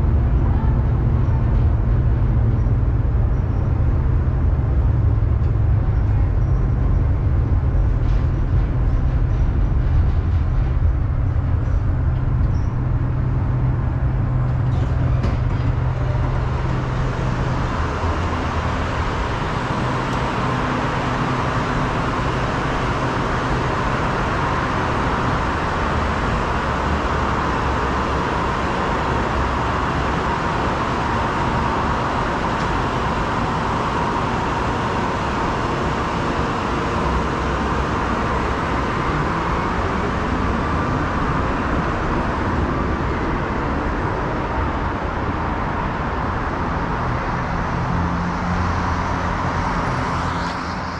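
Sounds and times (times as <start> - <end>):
tram rumbling on track: 0.0 - 50.9.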